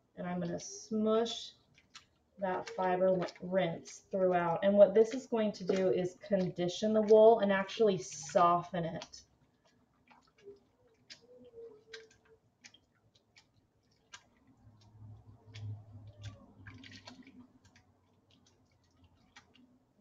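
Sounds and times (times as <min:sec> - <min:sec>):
water sloshing and dripping: 0:00.0 - 0:20.0
small ticks and clicks: 0:01.4 - 0:04.1, 0:05.0 - 0:20.0.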